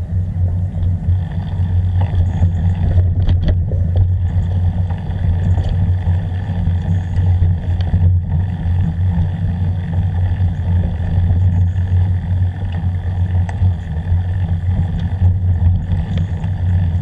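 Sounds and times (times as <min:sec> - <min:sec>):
wind buffeting camera: 0:00.0 - 0:17.0
camera mount vibration: 0:00.5 - 0:17.0
faint ticks: 0:00.7 - 0:17.0.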